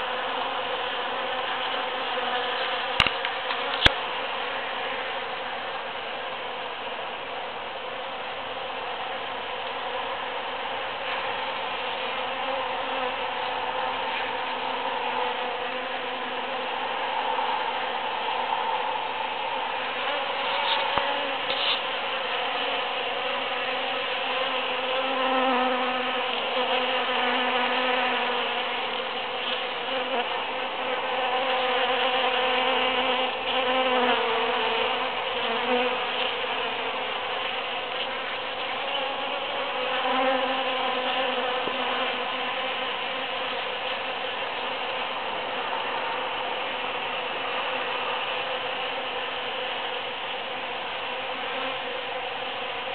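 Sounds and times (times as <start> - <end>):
bees buzzing: 0.0 - 52.9.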